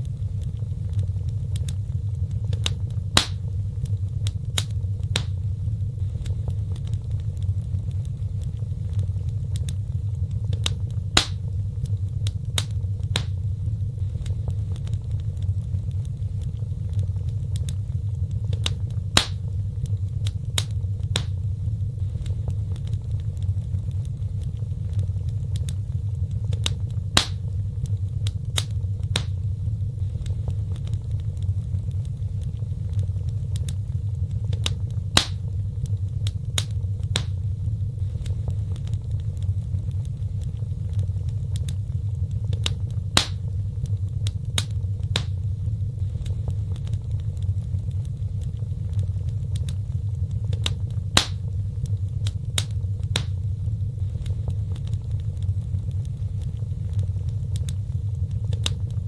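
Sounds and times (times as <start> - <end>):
fire crackling and popping: 0.0 - 59.0
fire low rumble: 0.0 - 59.0.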